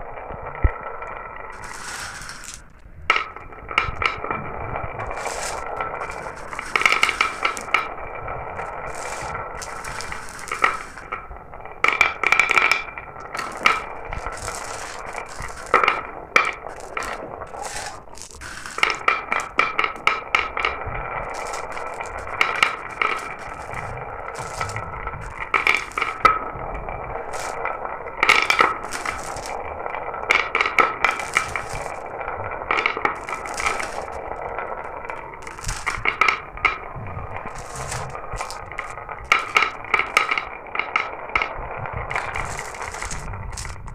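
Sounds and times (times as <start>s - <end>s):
glass marbles rolling on track: 0.0s - 43.9s.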